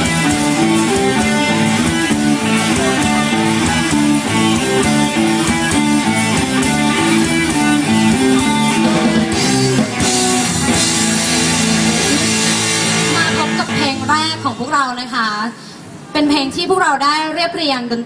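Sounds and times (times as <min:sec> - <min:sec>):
band playing guitar music: 0:00.0 - 0:15.1.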